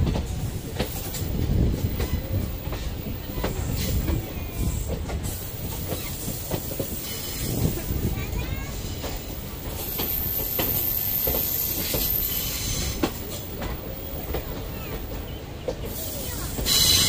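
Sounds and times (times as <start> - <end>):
train wheels rumbling on rails: 0.0 - 17.0
wheels clicking over rail joints: 0.0 - 17.0.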